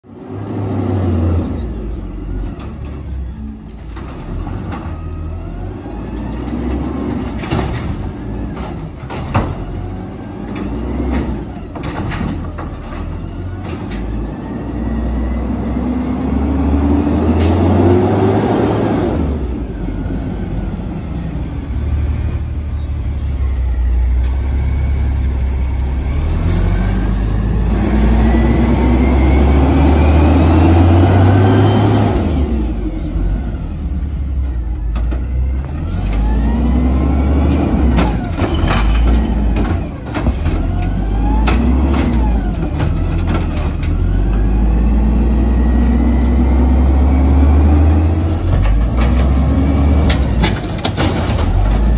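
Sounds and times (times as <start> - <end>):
garbage truck engine: 0.0 - 51.9.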